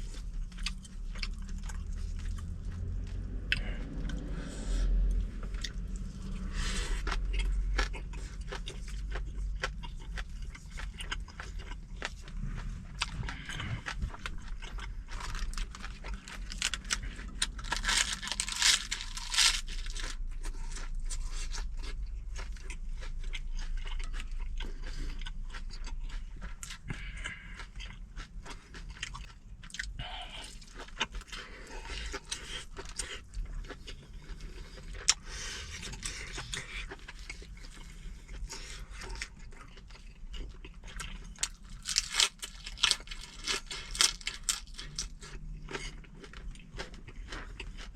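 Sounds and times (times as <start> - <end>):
low rumble: 0.0 - 46.7
chewing and crunching: 0.0 - 47.9.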